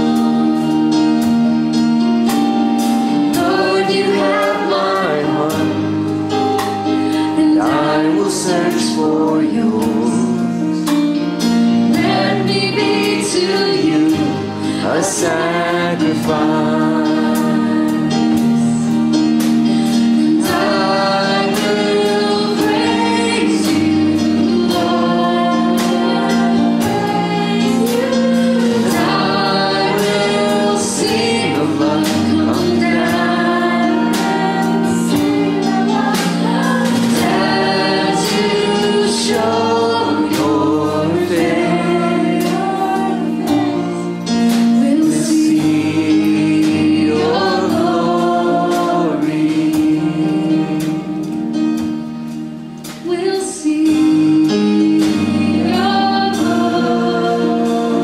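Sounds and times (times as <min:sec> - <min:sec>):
drums: 0:00.0 - 0:58.0
voices singing: 0:03.2 - 0:06.0, 0:07.3 - 0:10.8, 0:11.8 - 0:19.0, 0:20.0 - 0:51.3, 0:53.2 - 0:58.0.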